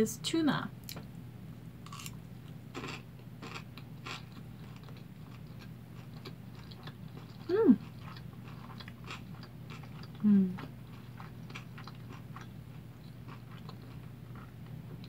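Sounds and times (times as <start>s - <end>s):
close-up chewing with wet clicks: 2.8s - 15.0s.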